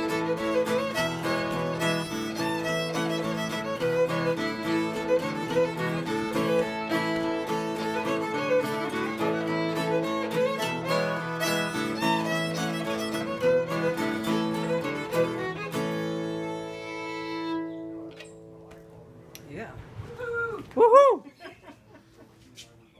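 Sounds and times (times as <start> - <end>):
fiddle tune: 0.0 - 18.6.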